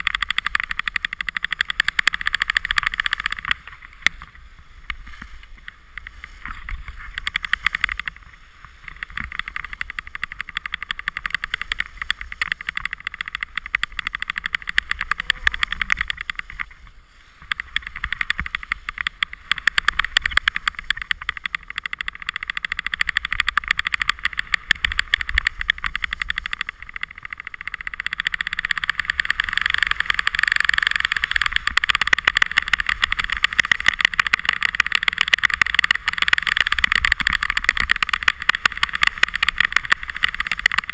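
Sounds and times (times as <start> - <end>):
skis scraping over snow: 0.0 - 40.9
wind rumble on microphone: 0.0 - 40.9.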